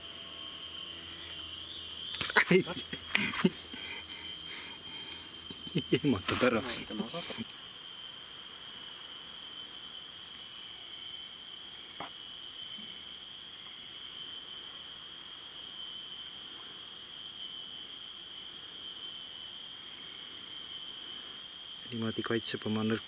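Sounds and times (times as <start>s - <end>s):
shrill insect chorus: 0.0s - 23.0s.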